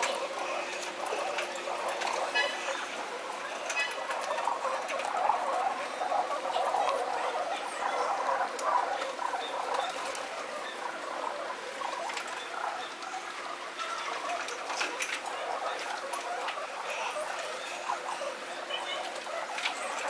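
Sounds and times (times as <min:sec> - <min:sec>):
pigeons cooing and scuffling: 0:00.0 - 0:20.0.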